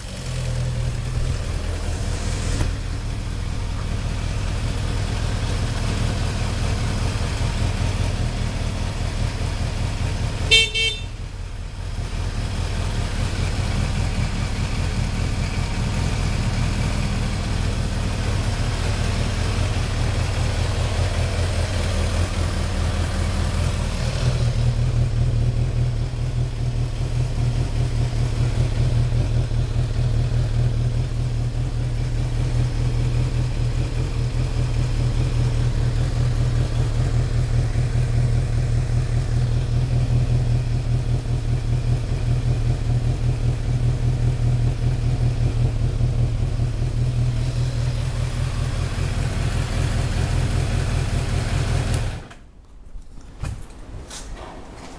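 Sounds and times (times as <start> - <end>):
motorcycle engine idling: 0.0 - 52.3.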